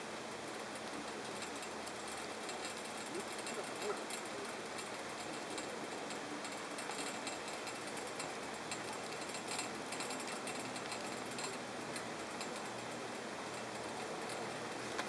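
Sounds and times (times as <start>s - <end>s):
faint ticks and rustles: 0.0s - 15.0s
steady hiss: 0.0s - 15.0s.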